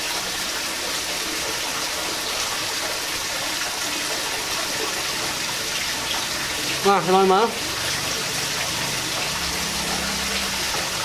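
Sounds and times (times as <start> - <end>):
running water hiss: 0.0 - 11.0.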